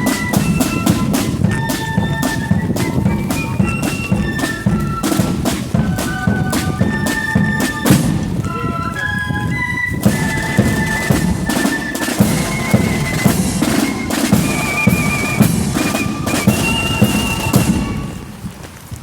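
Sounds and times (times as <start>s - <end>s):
flutes playing a melody: 0.0s - 18.7s
snare drums: 0.0s - 18.8s.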